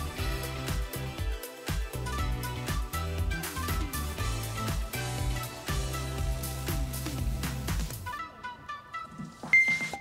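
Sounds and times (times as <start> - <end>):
electronic music with bass and drums: 0.0 - 10.0.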